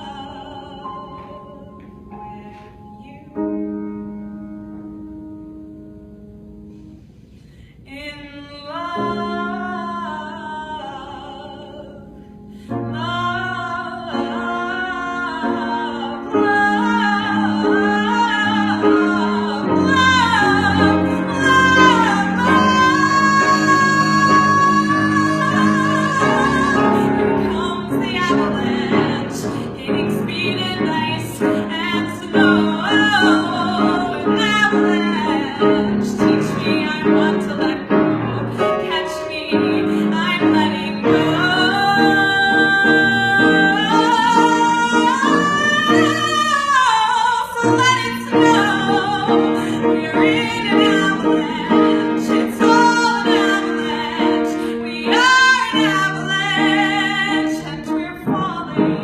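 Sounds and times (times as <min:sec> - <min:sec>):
woman singing: 0:00.0 - 0:04.0, 0:07.9 - 0:59.0
piano accompaniment: 0:00.0 - 0:59.0.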